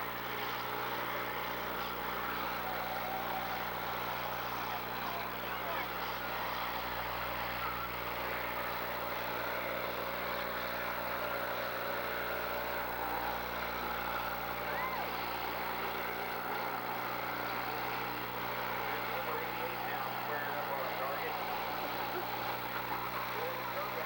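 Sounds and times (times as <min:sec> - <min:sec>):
car engines running: 0:00.0 - 0:24.0.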